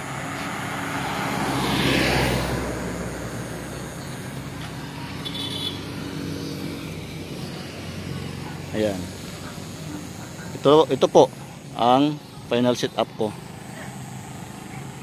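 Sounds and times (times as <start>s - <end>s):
vehicle passing on road: 0.0s - 15.0s
steady low hum: 2.4s - 15.0s.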